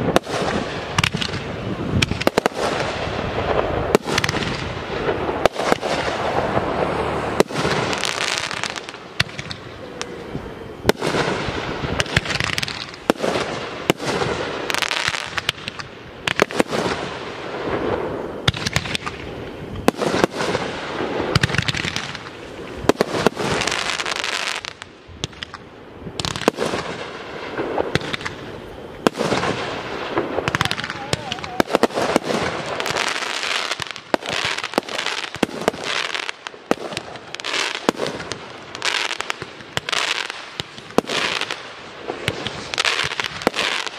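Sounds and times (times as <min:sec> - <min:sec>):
fireworks crackling: 0:00.0 - 0:43.9.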